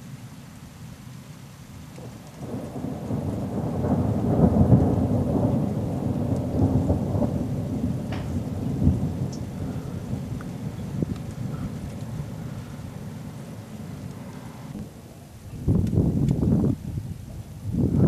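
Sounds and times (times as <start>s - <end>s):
thunder rolling: 1.9s - 18.0s.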